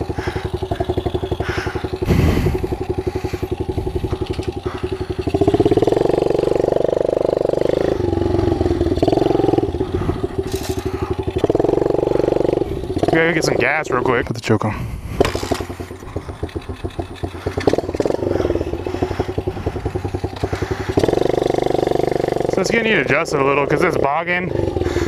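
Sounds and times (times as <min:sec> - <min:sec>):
small motorcycle engine puttering: 0:00.0 - 0:25.0.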